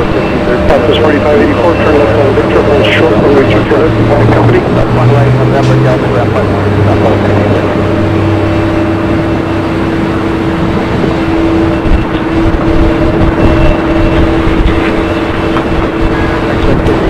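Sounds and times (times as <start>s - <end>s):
vehicle running hum: 0.0s - 17.0s.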